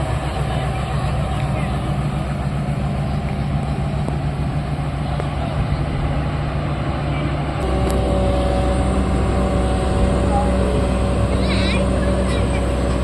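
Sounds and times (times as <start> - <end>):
excavator diesel engine running: 0.0 - 13.0
steady whine: 0.0 - 13.0.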